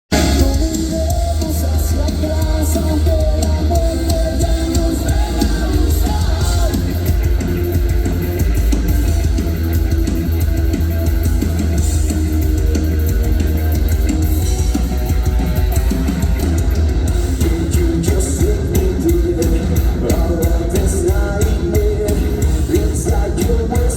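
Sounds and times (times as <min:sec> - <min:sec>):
drum kit: 0:00.0 - 0:23.9
electric guitar: 0:00.1 - 0:23.9
rock band playing live: 0:00.1 - 0:23.9.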